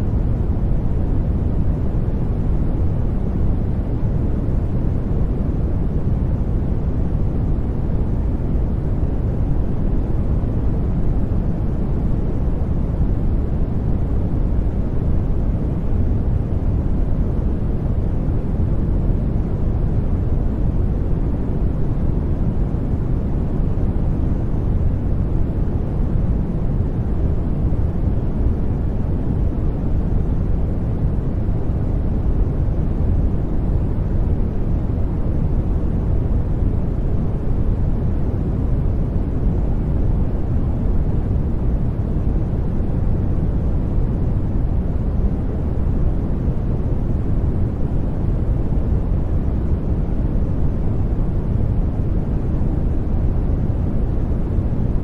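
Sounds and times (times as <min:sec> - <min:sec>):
low steady noise hiss: 0:00.0 - 0:55.0.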